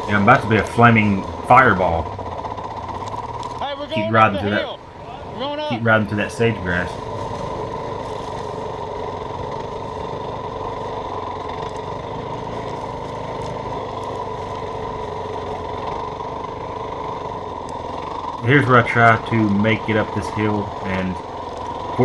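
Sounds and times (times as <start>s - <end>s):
dirt bike engine running steadily: 0.0s - 22.0s.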